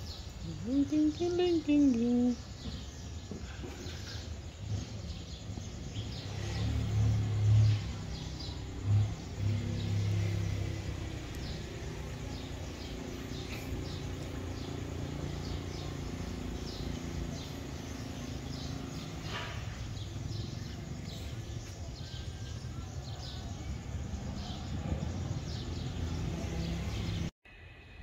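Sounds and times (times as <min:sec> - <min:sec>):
small birds chirping: 0:00.0 - 0:27.3.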